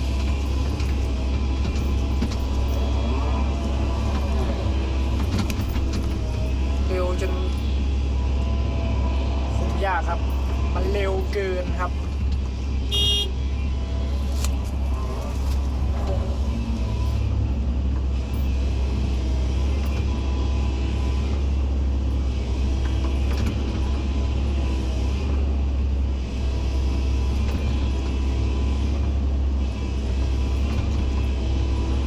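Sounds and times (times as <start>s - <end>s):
excavator diesel engine drone: 0.0s - 32.0s.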